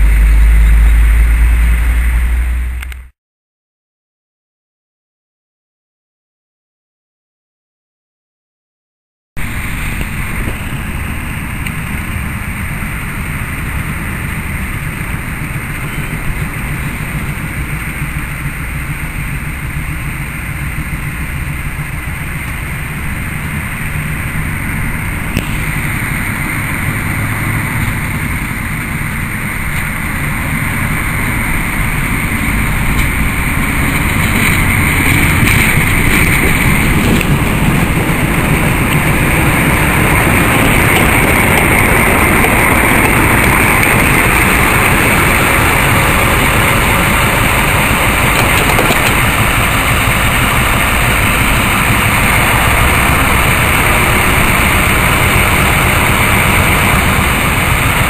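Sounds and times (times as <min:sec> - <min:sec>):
diesel locomotive engine running: 0:00.0 - 0:03.1, 0:09.4 - 0:58.0.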